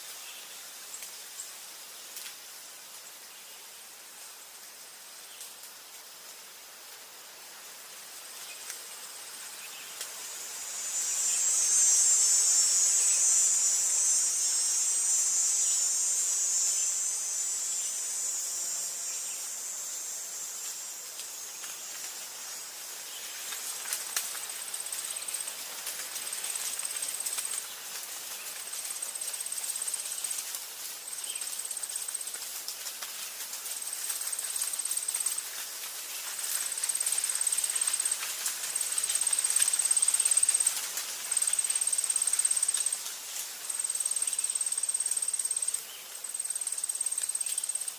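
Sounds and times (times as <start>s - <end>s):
dense high-pitched insect buzz: 0.0s - 47.9s
thin high insect trill: 7.6s - 47.9s.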